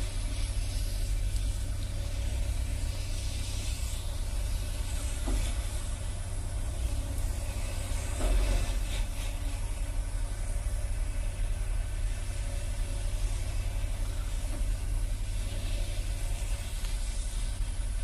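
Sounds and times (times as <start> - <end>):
heavy equipment engine rumbling: 0.0 - 18.0.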